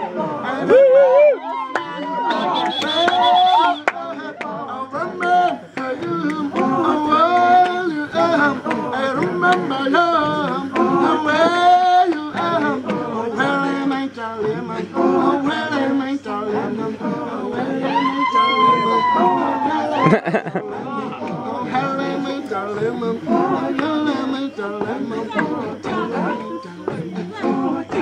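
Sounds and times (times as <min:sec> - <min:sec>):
a cappella choir singing: 0:00.0 - 0:28.0.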